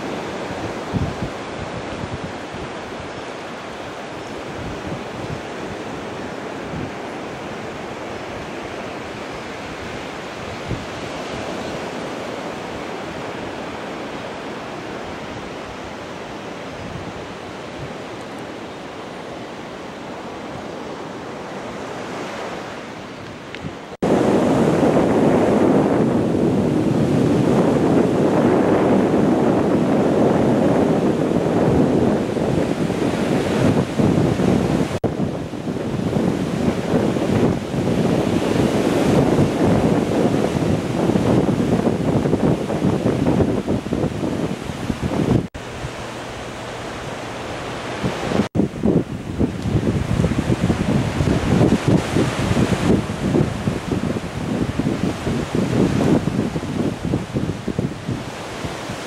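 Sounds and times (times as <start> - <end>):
surf washing on beach: 0.0 - 59.0
waves breaking among pier pilings: 0.0 - 59.0
wind on microphone: 0.0 - 59.0.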